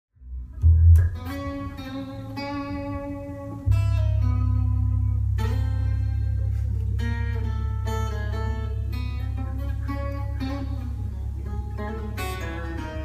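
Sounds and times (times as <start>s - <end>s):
acoustic guitar chords: 0.2s - 13.0s
deep bass guitar note: 0.2s - 13.0s.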